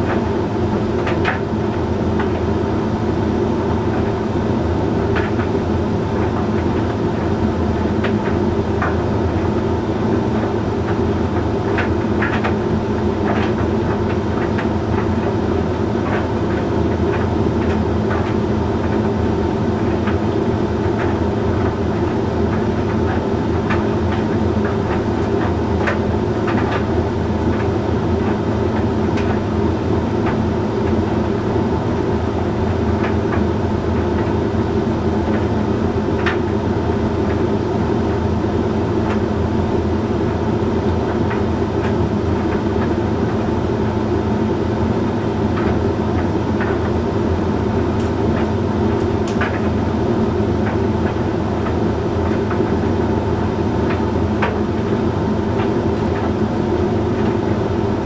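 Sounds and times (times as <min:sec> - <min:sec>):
tumble dryer humming: 0:00.0 - 0:58.0.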